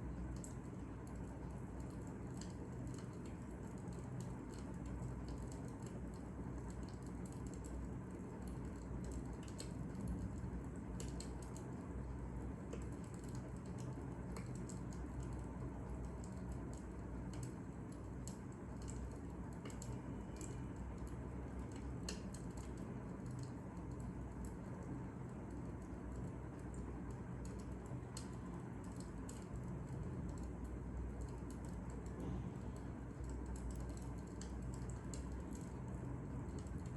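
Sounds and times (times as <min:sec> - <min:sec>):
fire crackling: 0:00.0 - 0:36.9
low rumble of burning: 0:00.0 - 0:36.9.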